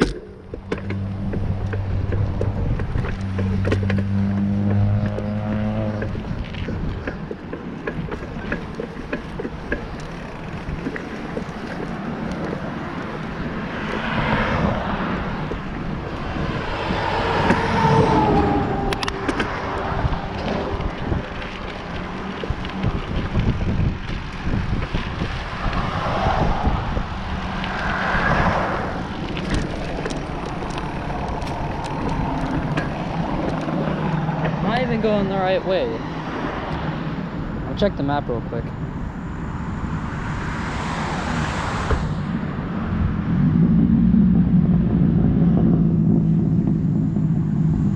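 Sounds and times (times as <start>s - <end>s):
motor vehicles passing: 0.0s - 47.9s
wind and road noise: 0.0s - 47.9s.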